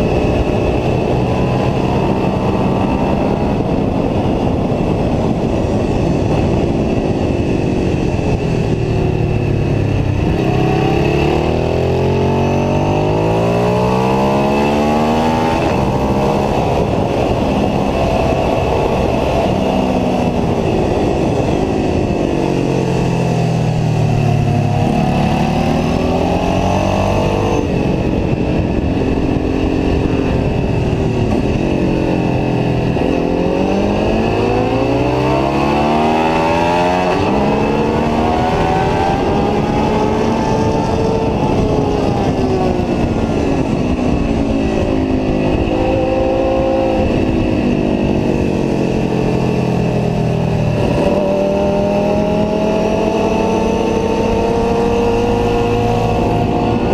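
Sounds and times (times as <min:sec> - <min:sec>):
motorcycle engine at high revs: 0:00.0 - 0:56.9.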